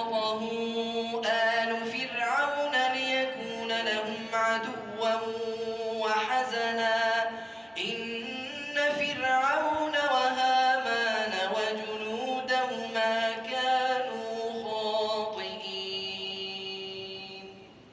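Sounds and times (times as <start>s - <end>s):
person chanting melodically: 0.0s - 17.8s.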